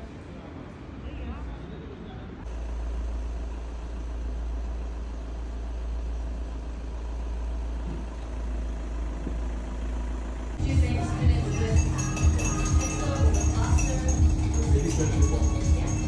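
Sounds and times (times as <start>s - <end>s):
vehicle engine rumbling: 2.3s - 16.0s.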